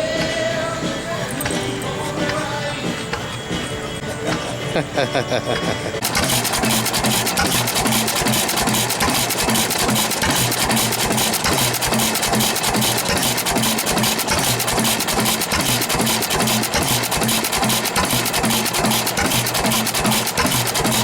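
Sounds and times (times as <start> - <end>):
car engine idling: 0.0 - 5.0, 6.0 - 21.0.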